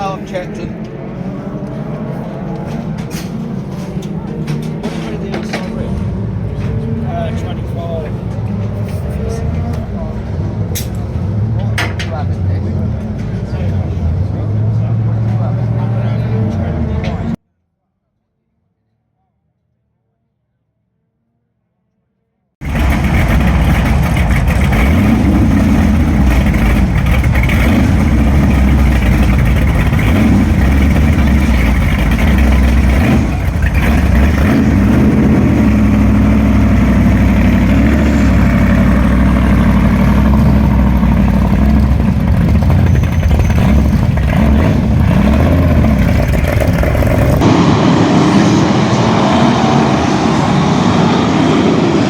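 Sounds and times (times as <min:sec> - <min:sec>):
stock car engines racing: 0:00.0 - 0:17.4, 0:22.6 - 0:52.0.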